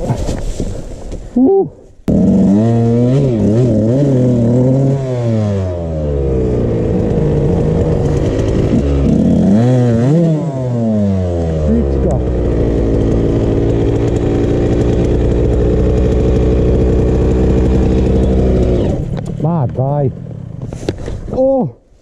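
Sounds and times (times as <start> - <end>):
dirt bike engine revving: 2.1 - 20.7.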